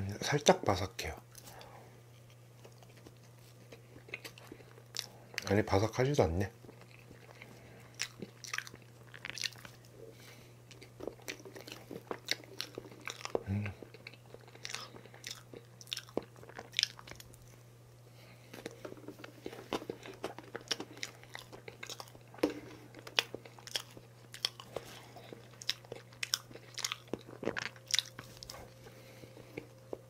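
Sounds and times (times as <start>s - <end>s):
faint low hum: 0.0s - 30.0s
chewing: 1.3s - 5.5s, 6.6s - 17.6s, 18.2s - 30.0s.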